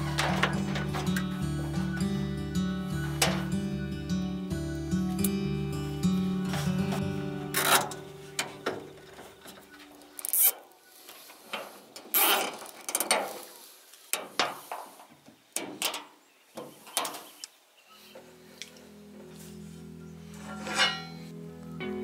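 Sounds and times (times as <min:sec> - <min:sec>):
cables rustling and scraping: 0:00.0 - 0:03.9, 0:05.2 - 0:21.7.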